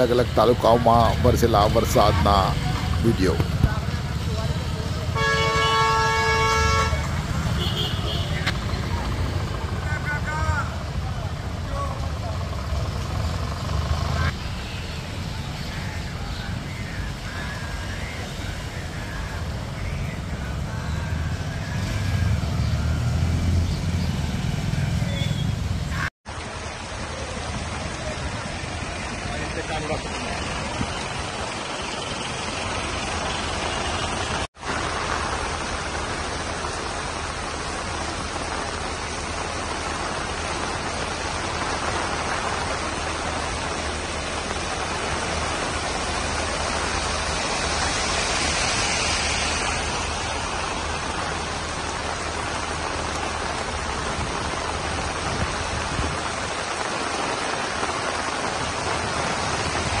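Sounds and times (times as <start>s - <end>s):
heavy rain pouring on street: 0.0s - 60.0s.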